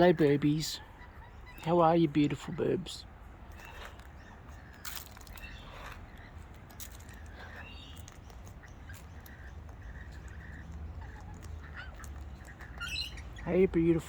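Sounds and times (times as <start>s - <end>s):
faint wild bird calls: 0.0s - 14.0s.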